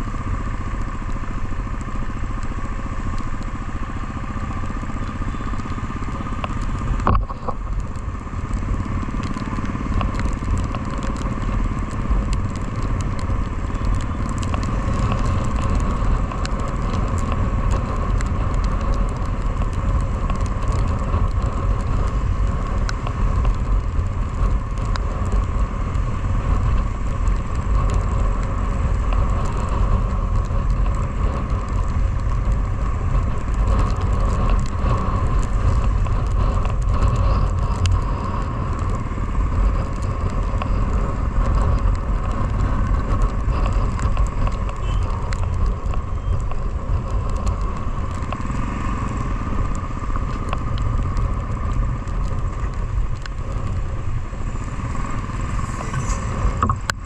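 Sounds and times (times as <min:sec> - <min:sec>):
motorcycle engine running under load: 0:00.0 - 0:57.0
small ticks: 0:00.8 - 0:57.0.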